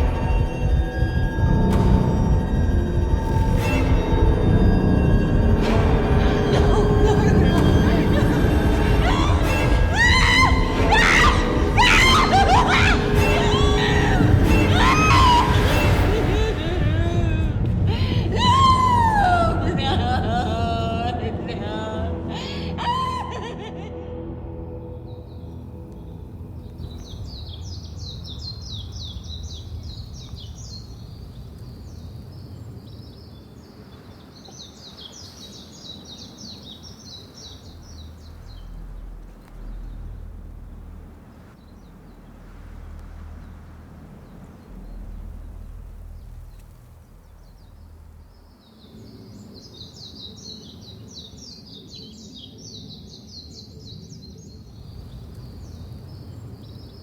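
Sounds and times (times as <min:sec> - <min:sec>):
low wind rumble: 0:00.0 - 0:57.0
songbird chirping trills: 0:00.0 - 0:57.0.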